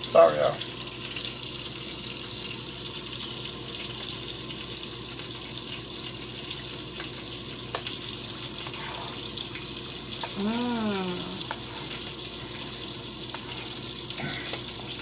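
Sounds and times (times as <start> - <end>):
sausages sizzling in a pan: 0.0 - 15.0.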